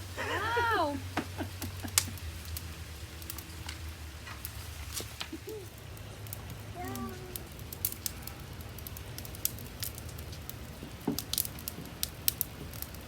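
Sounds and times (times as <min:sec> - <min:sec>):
wood fire crackling: 0:00.0 - 0:13.0
sharp fire pops: 0:01.6 - 0:02.6, 0:03.2 - 0:13.0.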